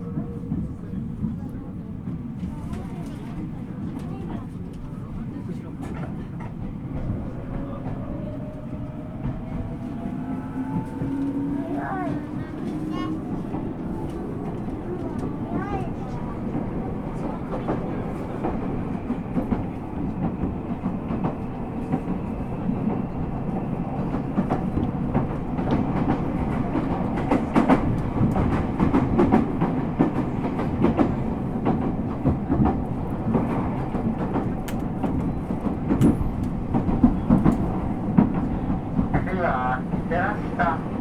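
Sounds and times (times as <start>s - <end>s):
train wheels and motors rumbling: 0.0s - 41.0s.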